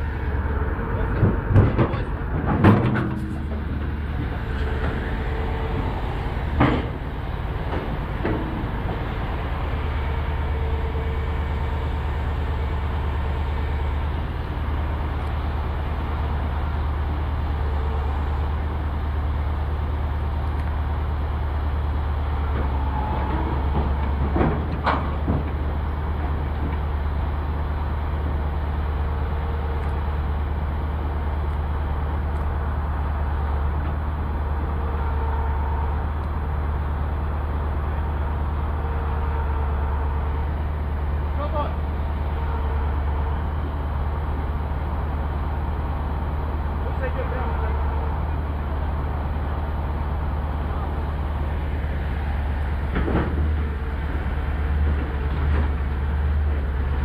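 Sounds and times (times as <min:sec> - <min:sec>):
excavator diesel engine drone: 0:00.0 - 0:57.0.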